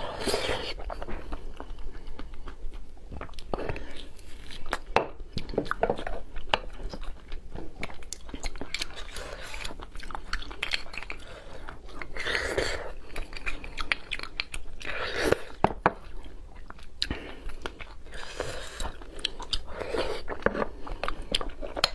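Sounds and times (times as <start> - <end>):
person biting and chewing meat: 0.0 - 21.9.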